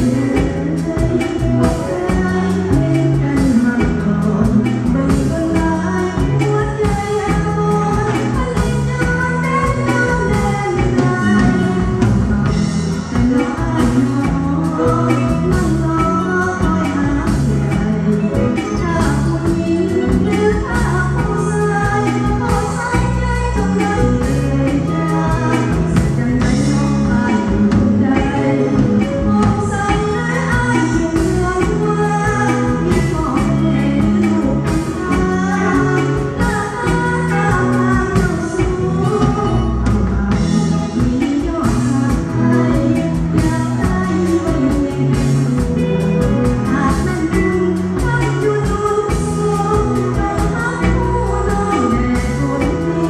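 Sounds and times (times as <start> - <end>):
band playing dance song: 0.0 - 53.0
bass line: 0.0 - 53.0
person singing: 0.0 - 53.0
steady drum beat: 0.0 - 53.0.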